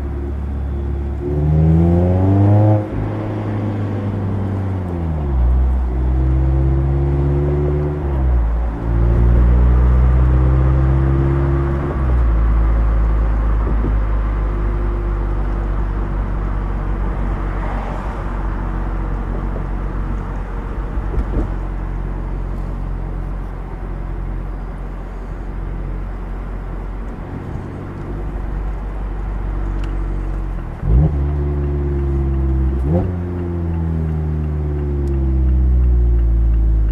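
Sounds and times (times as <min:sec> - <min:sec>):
car engine while driving: 0:00.0 - 0:36.9.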